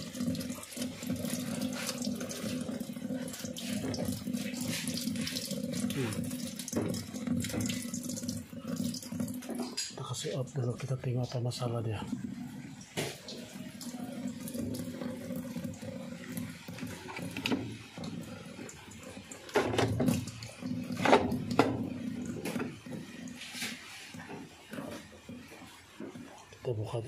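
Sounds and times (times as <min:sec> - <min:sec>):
water trickling into a drum: 0:00.0 - 0:27.0.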